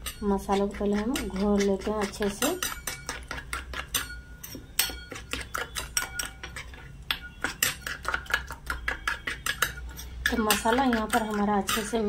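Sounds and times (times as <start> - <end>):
metal spoon scraping steel bowl: 0.0 - 12.0.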